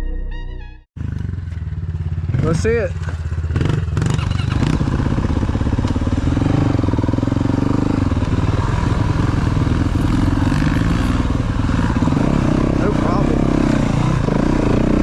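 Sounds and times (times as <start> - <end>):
dirt bike engine running: 1.0 - 15.0.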